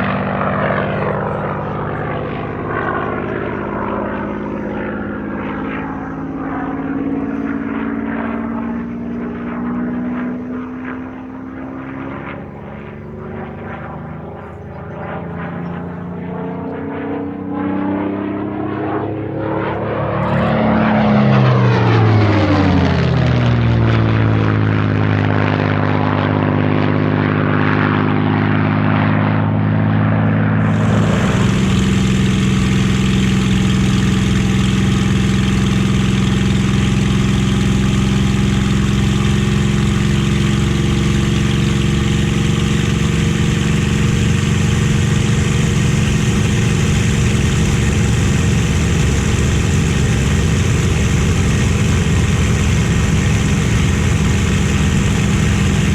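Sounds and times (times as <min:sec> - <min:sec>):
propeller plane flying by: 0:00.0 - 0:55.9.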